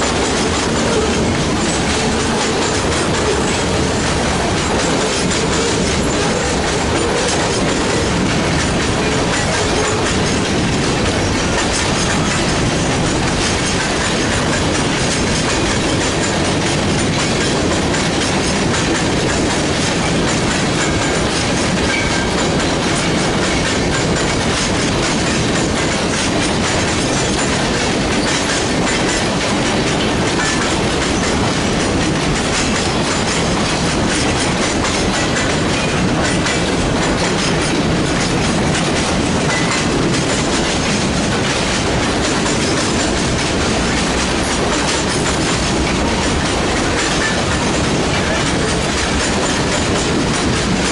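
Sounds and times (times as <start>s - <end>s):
freight train wheels on rails: 0.0s - 50.9s.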